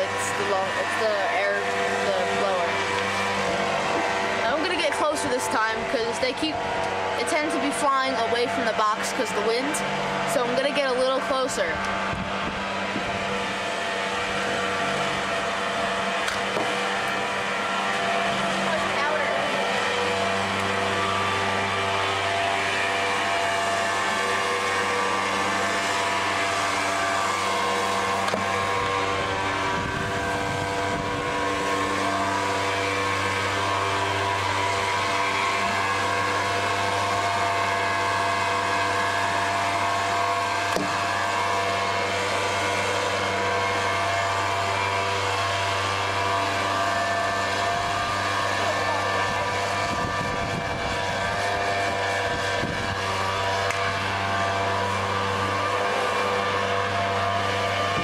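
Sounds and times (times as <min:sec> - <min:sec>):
leaf blower engine drone: 0:00.0 - 0:58.0.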